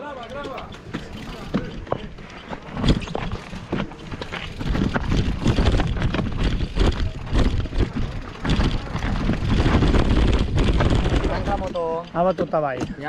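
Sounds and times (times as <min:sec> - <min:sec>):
bike clattering over rocks: 0:00.0 - 0:13.0
wind buffeting microphone: 0:00.0 - 0:13.0.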